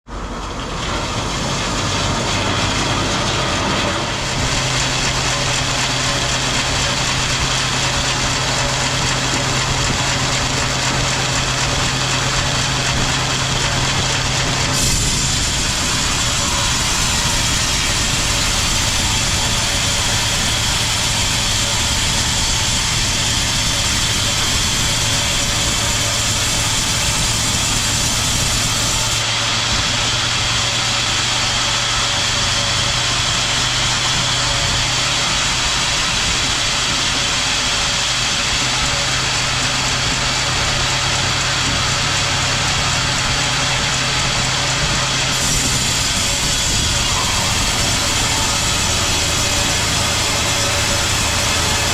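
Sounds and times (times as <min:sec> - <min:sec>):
sawmill machinery running: 0:00.0 - 0:51.9.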